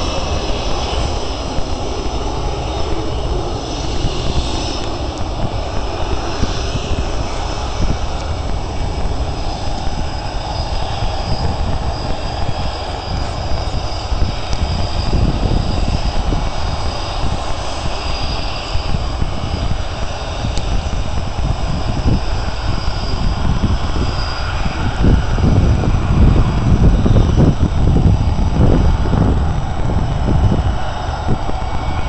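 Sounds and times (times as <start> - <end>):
jet engines whining at taxi power: 0.0 - 32.0.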